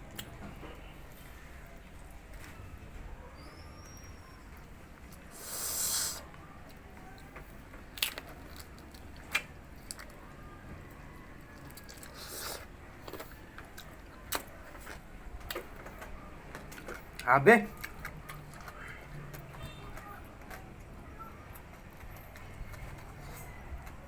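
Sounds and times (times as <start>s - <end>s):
chewing crackles and clicks: 0.0s - 2.6s, 4.5s - 5.3s, 6.2s - 24.0s.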